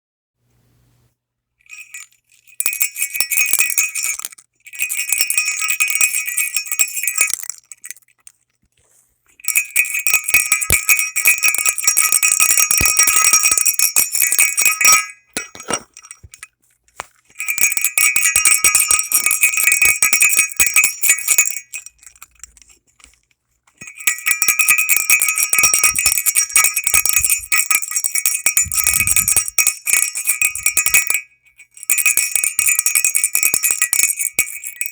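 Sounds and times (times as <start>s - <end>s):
small bells jingling: 1.6s - 8.4s, 9.3s - 34.9s.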